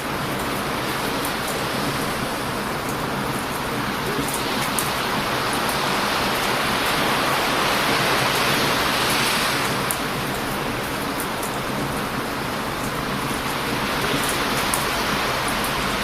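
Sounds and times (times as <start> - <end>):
campfire crackling: 0.0 - 16.0
surf breaking on a beach: 0.0 - 16.0.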